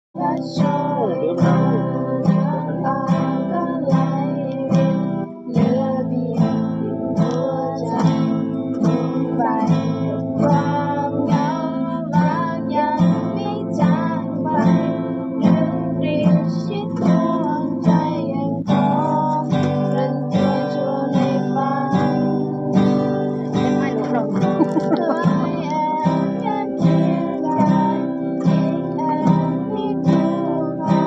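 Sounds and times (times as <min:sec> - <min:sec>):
acoustic guitars strumming: 0:00.2 - 0:31.0
picked guitar melody: 0:00.2 - 0:31.0.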